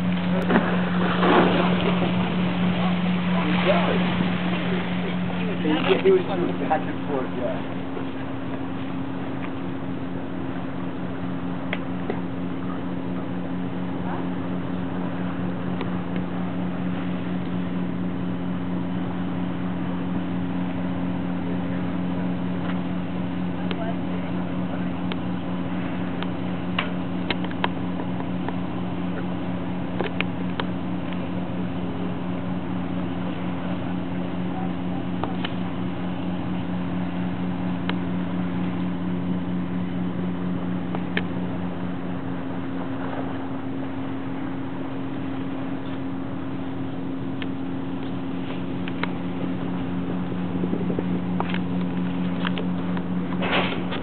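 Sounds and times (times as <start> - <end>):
boat engine droning: 0.0 - 54.0
low mechanical hum: 0.0 - 54.0
wash of noise: 0.0 - 54.0.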